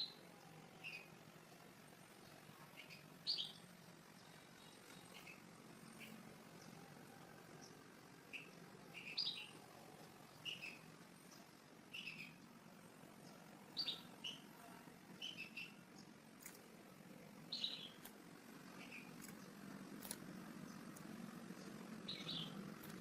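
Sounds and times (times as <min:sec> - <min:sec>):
low steady background noise: 0:00.0 - 0:23.0
small bird chirping: 0:00.0 - 0:23.0.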